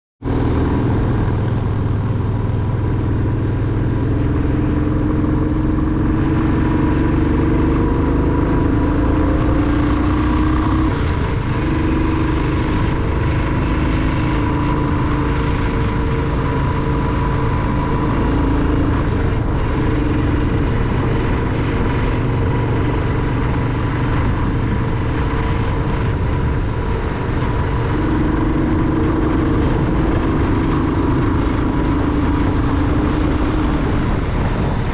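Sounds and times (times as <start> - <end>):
motorcycle engine running: 0.2 - 34.9.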